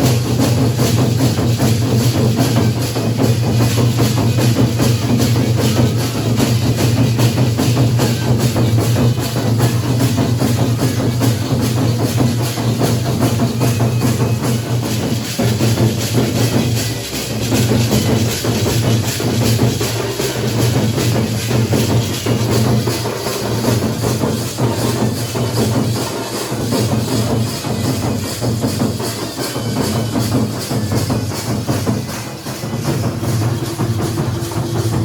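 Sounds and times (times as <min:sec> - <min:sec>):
drums playing fast beat: 0:00.0 - 0:35.0.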